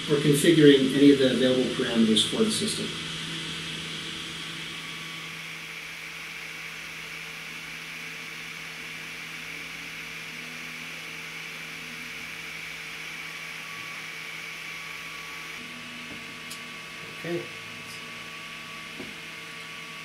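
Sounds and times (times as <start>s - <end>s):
cooling fans: 0.0s - 20.0s
electrical equipment humming: 0.0s - 20.0s.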